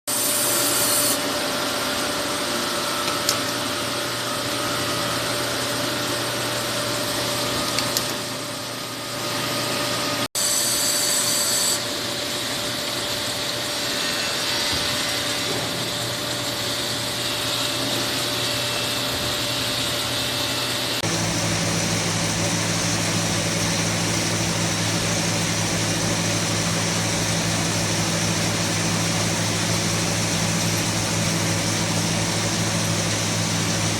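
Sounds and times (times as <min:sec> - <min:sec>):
factory machinery drone: 0:00.1 - 0:33.9.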